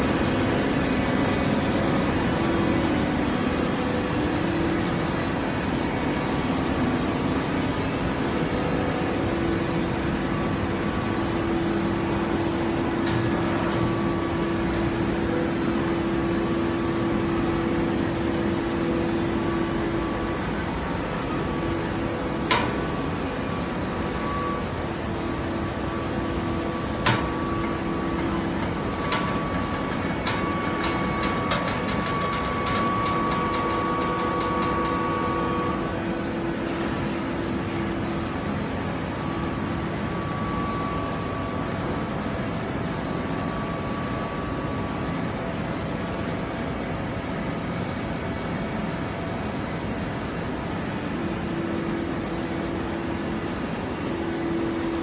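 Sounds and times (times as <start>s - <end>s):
baler machine humming: 0.0s - 55.0s.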